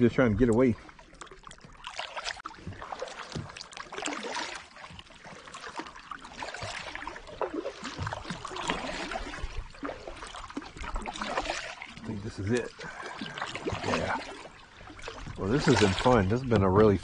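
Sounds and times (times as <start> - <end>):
paddle splashing in water: 0.0 - 17.0.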